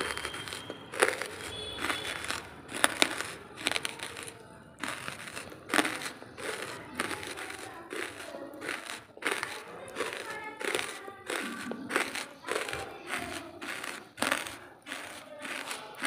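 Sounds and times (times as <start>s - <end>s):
charcoal cracking: 0.0s - 16.0s
charcoal crumbling: 0.0s - 16.0s.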